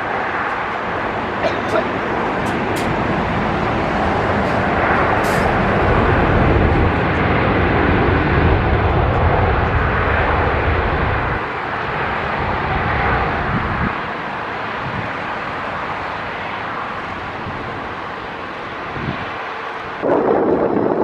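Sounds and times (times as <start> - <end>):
wind on microphone: 0.0 - 15.8, 18.7 - 21.0
jet engine roar: 0.0 - 21.0.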